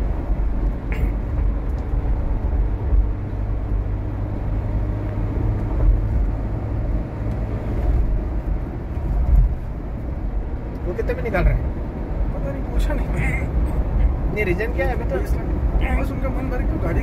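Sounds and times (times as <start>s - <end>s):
engine and road rumble in car cabin: 0.0s - 17.0s.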